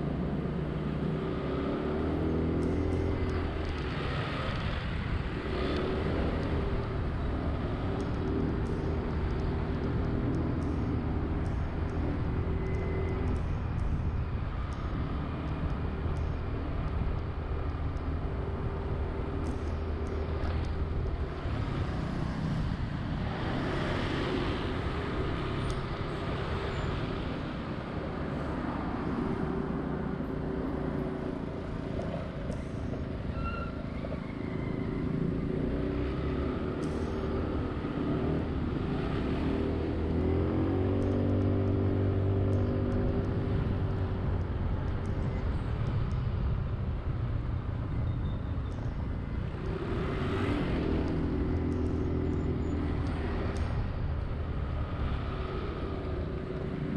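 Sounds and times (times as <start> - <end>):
road traffic noise: 0.0 - 56.9.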